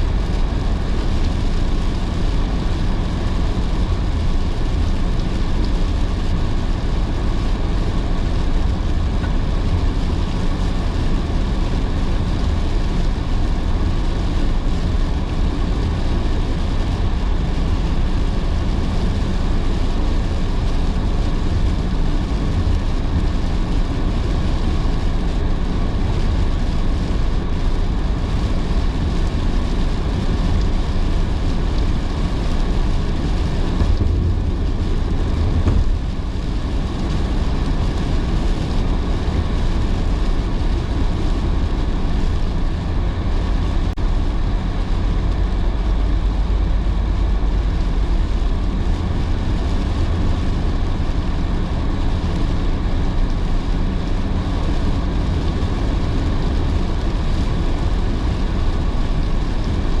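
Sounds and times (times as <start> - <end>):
car engine and tyres rumbling: 0.0 - 60.0.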